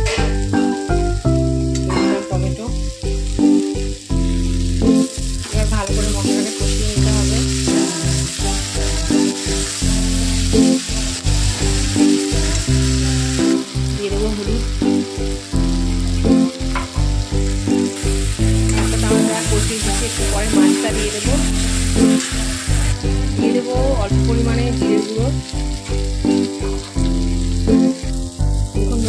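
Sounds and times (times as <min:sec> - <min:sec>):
background music: 0:00.0 - 0:29.0
vegetables sizzling in a pan: 0:00.0 - 0:29.0.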